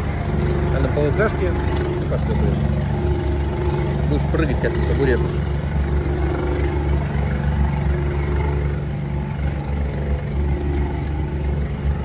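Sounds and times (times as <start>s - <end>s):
ship engine droning: 0.0s - 12.0s.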